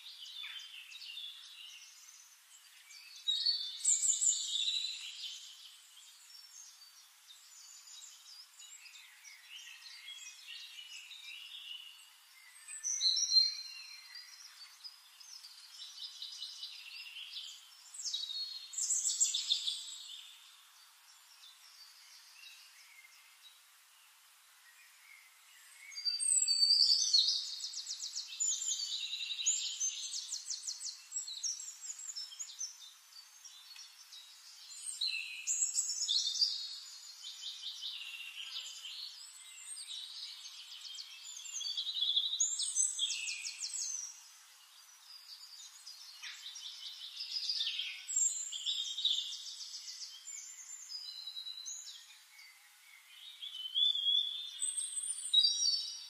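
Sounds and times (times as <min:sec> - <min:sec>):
bird chirping with buzzy trills: 0:00.0 - 0:56.0.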